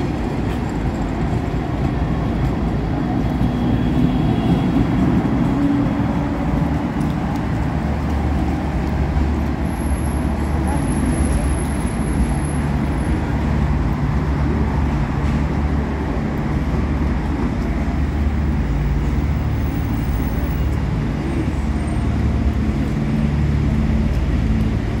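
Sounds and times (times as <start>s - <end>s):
city traffic noise: 0.0s - 25.0s.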